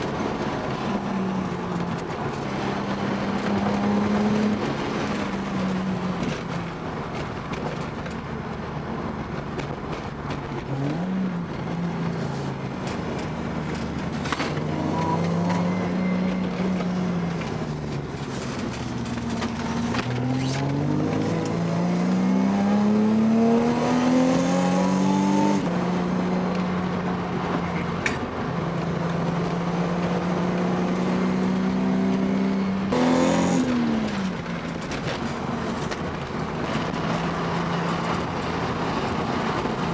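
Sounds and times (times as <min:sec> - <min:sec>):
car engine revving inside car: 0:00.0 - 0:07.1, 0:08.7 - 0:39.9.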